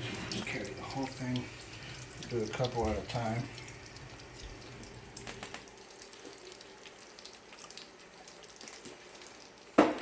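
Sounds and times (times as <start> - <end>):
oil sizzling in frying pans: 0.0 - 10.0.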